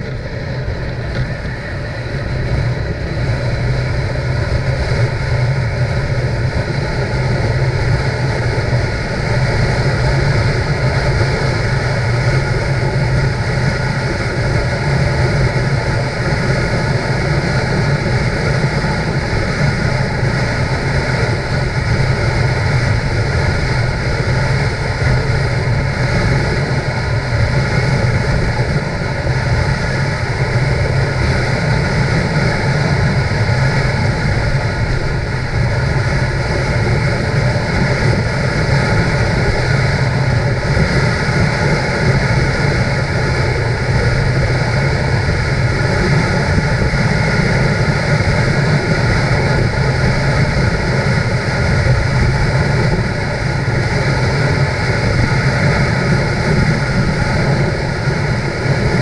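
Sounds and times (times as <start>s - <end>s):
motorcycle engine running: 0.0s - 59.0s
road noise: 0.0s - 59.0s
wind noise: 0.0s - 59.0s.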